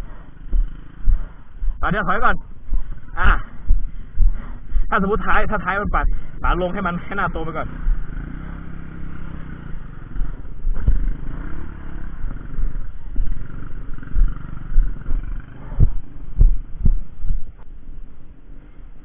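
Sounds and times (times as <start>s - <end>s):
heavy low thumps: 0.0s - 17.6s
motorcycle engine revving: 0.0s - 17.6s.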